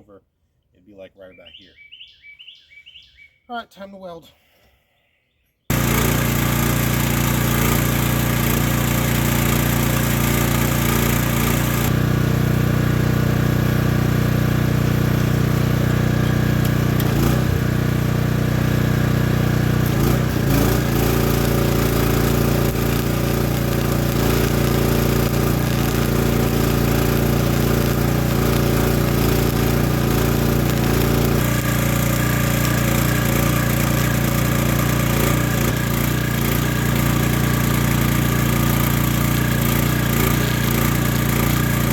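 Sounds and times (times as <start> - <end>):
engine running: 5.7 - 41.9.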